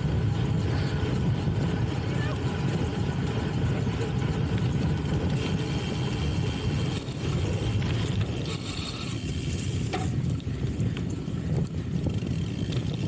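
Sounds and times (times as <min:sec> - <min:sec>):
bike rattles: 0:00.0 - 0:13.0
bike tyres rolling rumble: 0:00.0 - 0:13.0
wind buffeting microphone: 0:00.0 - 0:13.0.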